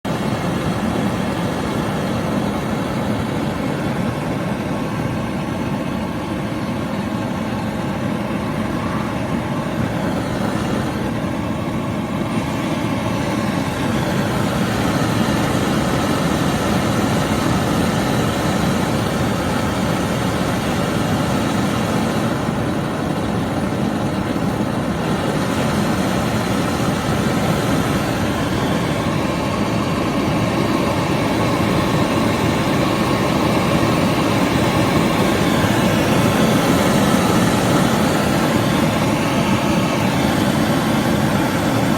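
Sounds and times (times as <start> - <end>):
gas burner roaring: 0.1 - 41.9.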